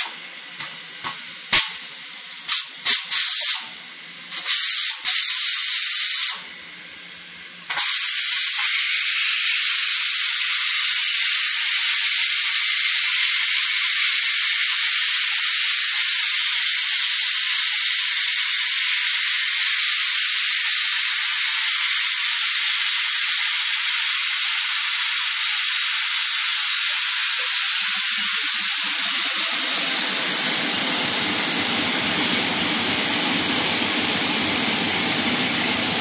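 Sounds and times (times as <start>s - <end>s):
pressure cooker valve hissing steam: 0.0s - 36.0s.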